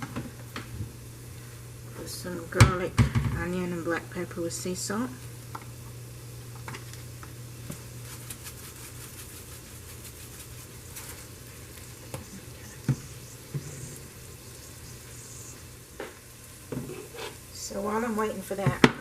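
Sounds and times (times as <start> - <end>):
vegetables sizzling in a frying pan: 0.0 - 19.0.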